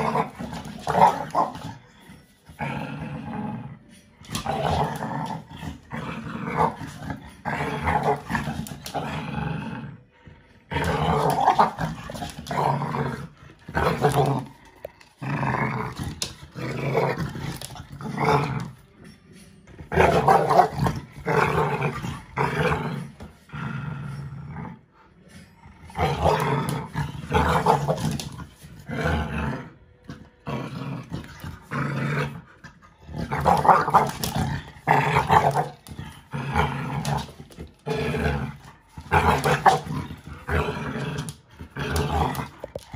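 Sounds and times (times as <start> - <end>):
dogs growling in play: 0.0 - 42.9.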